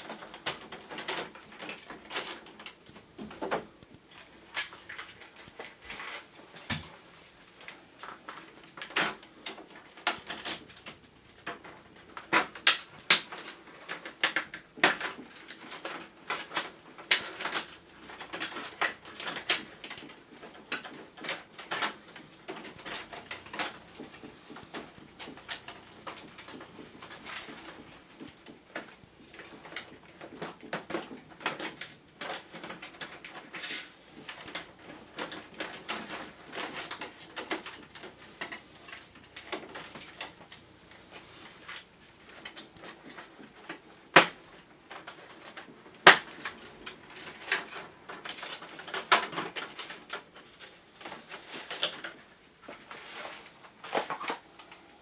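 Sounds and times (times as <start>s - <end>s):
plastic parts clicking and snapping: 8.0s - 54.8s.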